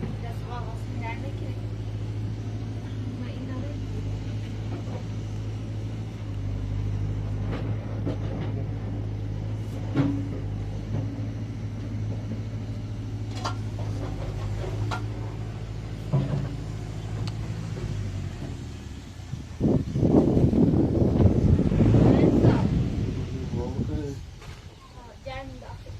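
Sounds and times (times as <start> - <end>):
digger diesel engine humming: 0.0 - 25.9.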